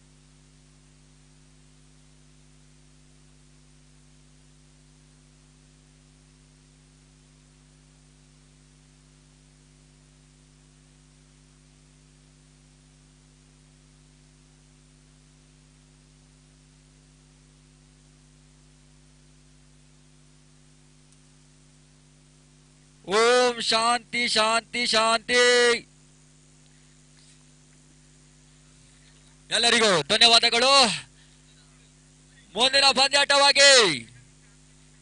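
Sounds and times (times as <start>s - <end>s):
low electrical hum: 0.0s - 35.0s
steady hiss: 0.0s - 35.0s.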